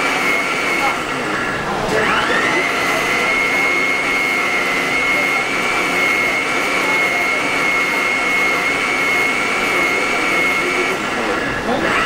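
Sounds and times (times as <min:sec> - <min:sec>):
mixer grinder whining: 0:00.0 - 0:12.0.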